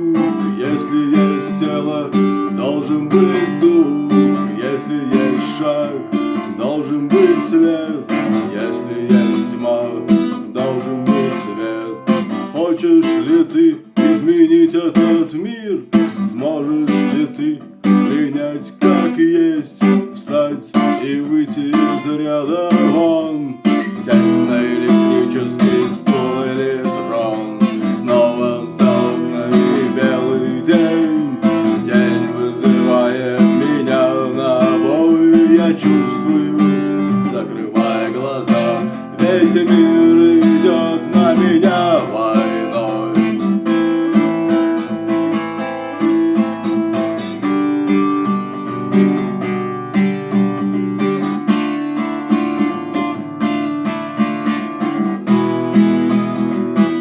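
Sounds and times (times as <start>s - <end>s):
strummed acoustic guitar: 0.0s - 57.0s.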